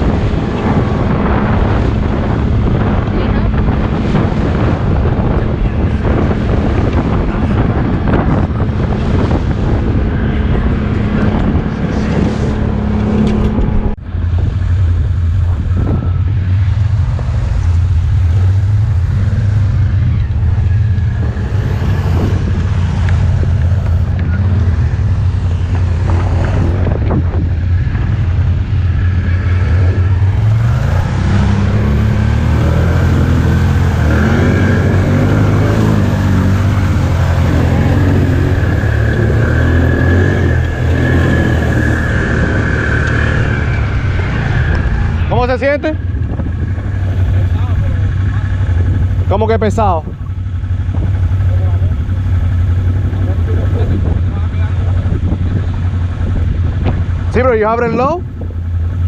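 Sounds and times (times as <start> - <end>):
atv engine running: 0.0 - 59.0
wind on microphone: 0.0 - 59.0.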